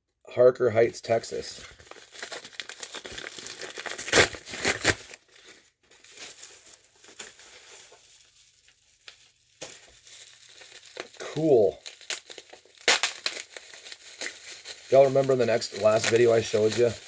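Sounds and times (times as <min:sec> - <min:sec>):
package being torn open: 0:01.6 - 0:17.0.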